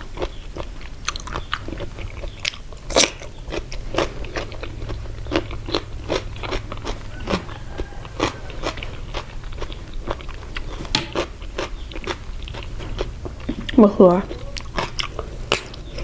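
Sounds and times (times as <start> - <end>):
crunchy chewing: 0.0 - 16.0
low hum: 1.8 - 16.0.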